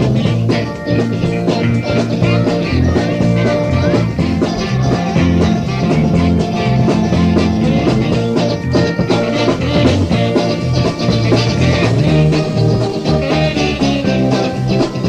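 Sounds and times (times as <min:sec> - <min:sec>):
up-tempo dance-band music: 0:00.0 - 0:15.0.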